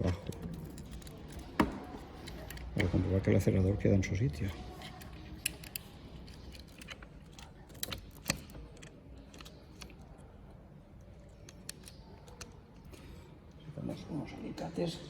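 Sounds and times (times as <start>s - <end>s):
metal parts clicking and clinking: 0.0s - 3.0s, 4.4s - 13.5s.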